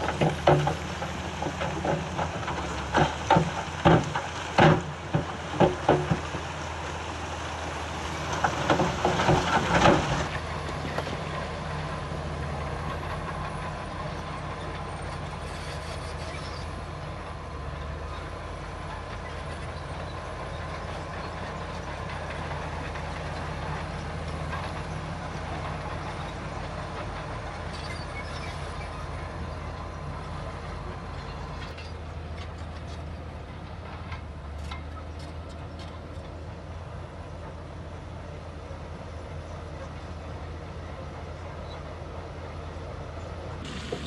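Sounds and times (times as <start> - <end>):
diesel earthmoving machinery running: 0.0 - 44.0.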